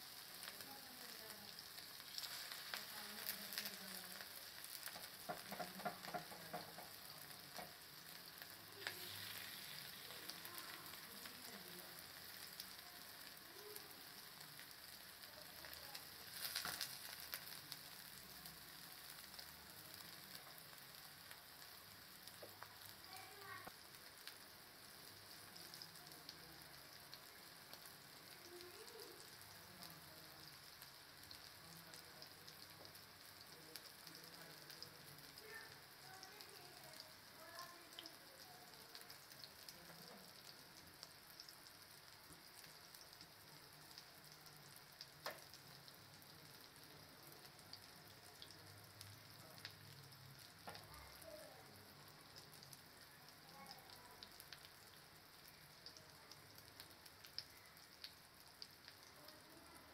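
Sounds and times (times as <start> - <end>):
kebabs sizzling in oil: 0.0 - 59.9.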